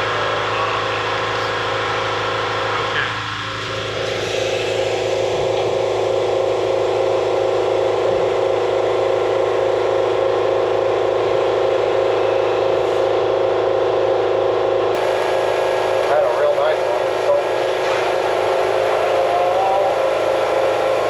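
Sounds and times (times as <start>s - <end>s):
constant hum: 0.0s - 21.0s
machine whirring: 0.0s - 21.0s.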